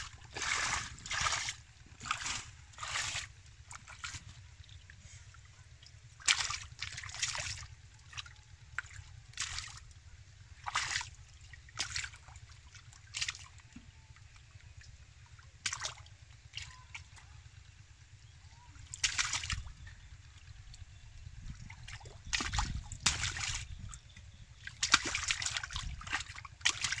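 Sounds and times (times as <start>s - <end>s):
low steady rumble: 0.0s - 27.0s
muddy water splashing: 0.0s - 27.0s.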